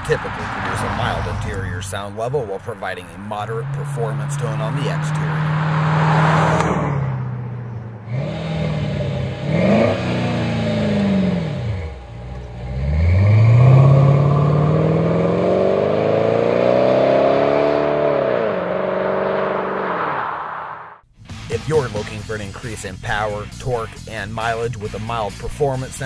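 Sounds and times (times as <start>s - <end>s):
car engine accelerating: 0.0s - 24.1s.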